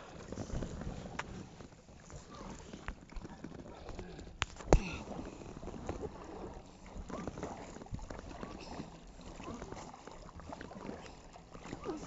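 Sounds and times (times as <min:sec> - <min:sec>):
paddle splashing in water: 0:00.0 - 0:12.0.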